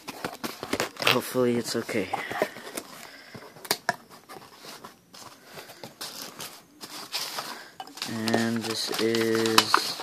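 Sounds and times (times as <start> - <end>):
paper and packing rustling: 0.0 - 10.0.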